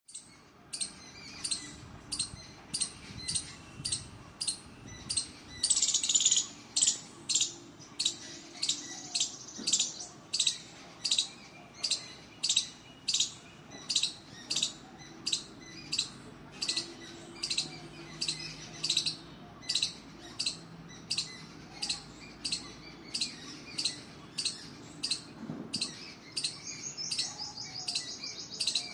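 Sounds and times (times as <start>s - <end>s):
squirrel chirping: 0.1s - 28.9s.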